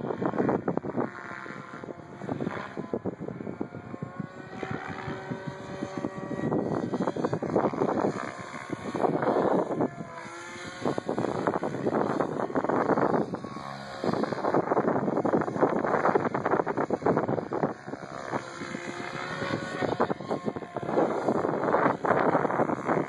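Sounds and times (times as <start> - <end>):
electric motor whine: 0.0 - 23.0
rotor blade whoosh: 0.1 - 23.0.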